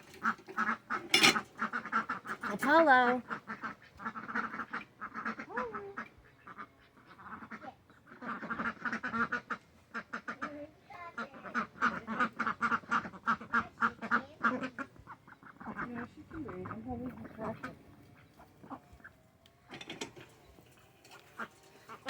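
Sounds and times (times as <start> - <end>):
ducks quacking: 0.0 - 19.2, 21.0 - 22.0.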